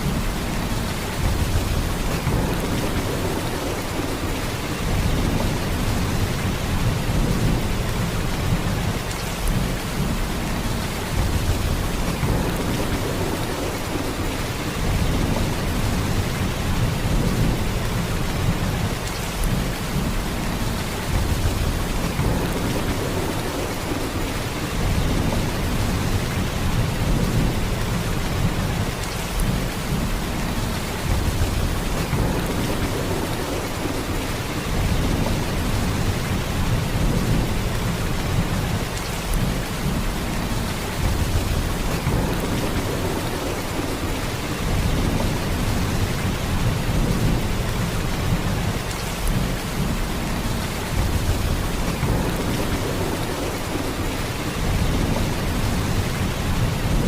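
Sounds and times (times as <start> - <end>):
heavy rain downpour: 0.0 - 57.0.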